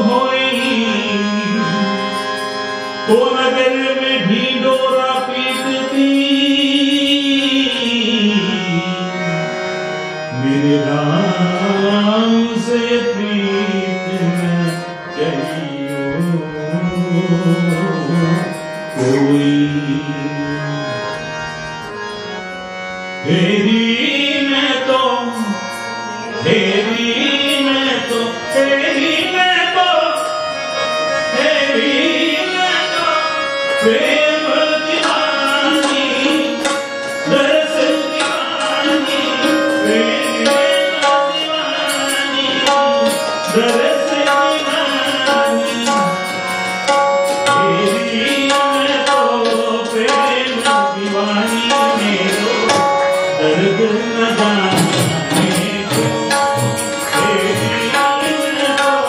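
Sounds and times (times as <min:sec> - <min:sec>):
man singing into a microphone: 0:00.0 - 0:59.0
sustained instrumental accompaniment: 0:00.0 - 0:59.0.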